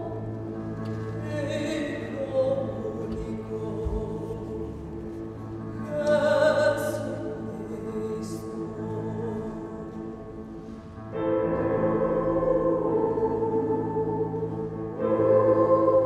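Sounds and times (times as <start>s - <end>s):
mixed choir singing chords: 0.0s - 16.0s.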